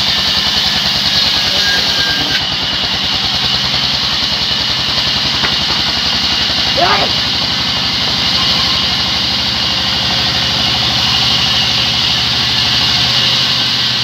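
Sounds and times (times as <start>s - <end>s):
band saw mill droning: 0.0s - 14.0s.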